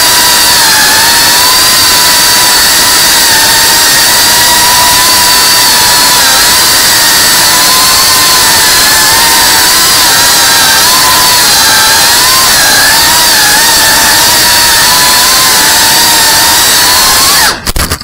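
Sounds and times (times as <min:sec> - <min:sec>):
drone motors whining: 0:00.0 - 0:17.7.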